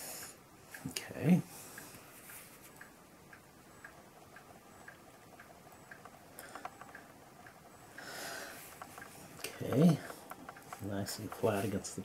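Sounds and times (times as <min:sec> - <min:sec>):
clock ticking: 0:00.2 - 0:12.0
sharp small clicks: 0:01.8 - 0:12.0.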